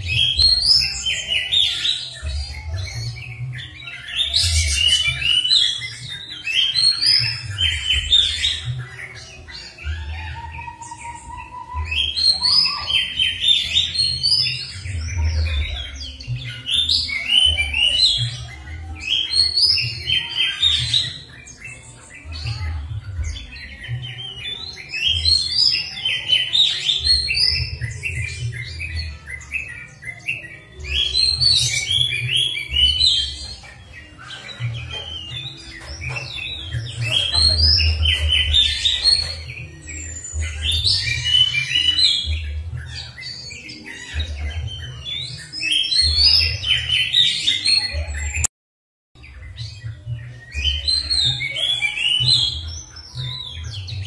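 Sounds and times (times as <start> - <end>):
recorded songbird song: 0.0 - 48.5, 49.2 - 54.0.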